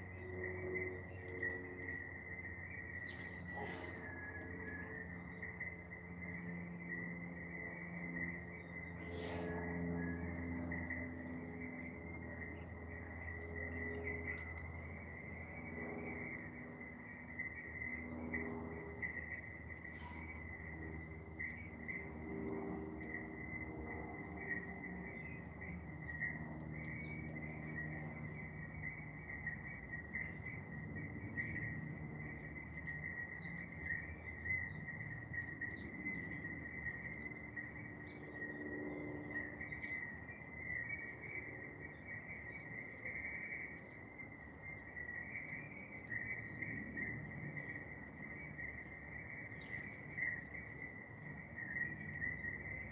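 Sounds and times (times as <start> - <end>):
faint bird chirps: 0.0 - 52.9
insects trilling: 0.0 - 52.9
low hum: 0.0 - 52.9.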